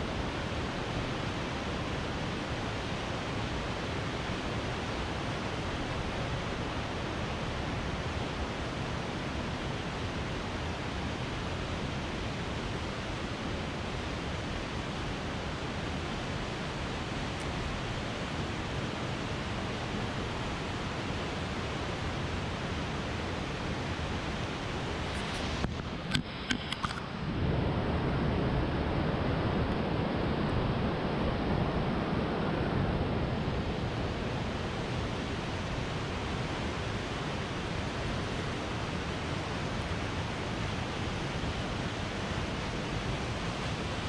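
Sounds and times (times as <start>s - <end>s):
waterfall and rapids rushing: 0.0s - 44.0s.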